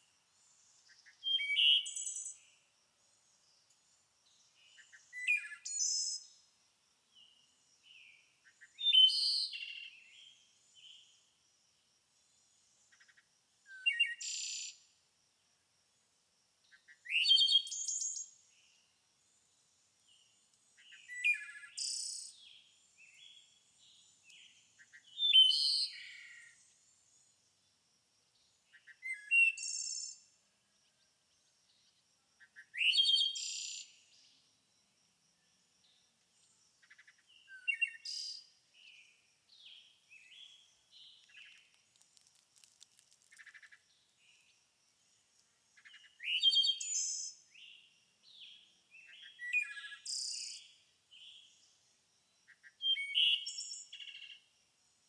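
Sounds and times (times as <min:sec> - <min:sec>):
songbird chirping song: 0:00.0 - 0:55.0.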